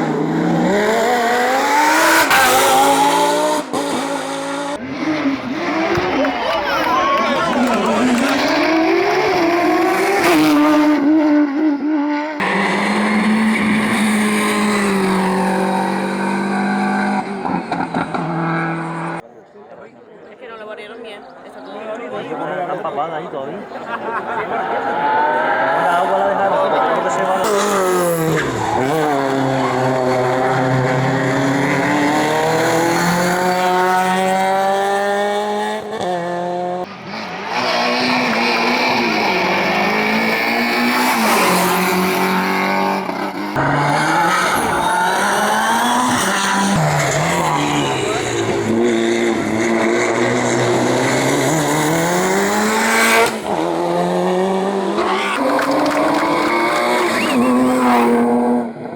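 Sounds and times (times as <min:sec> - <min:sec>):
race car engines at high revs: 0:00.0 - 0:19.2, 0:24.2 - 0:58.9.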